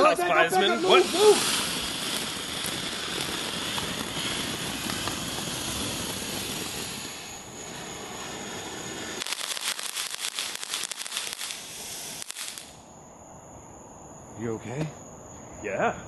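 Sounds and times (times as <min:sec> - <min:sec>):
firework crackling: 0:00.0 - 0:12.9
firework fountain hissing: 0:00.0 - 0:12.9.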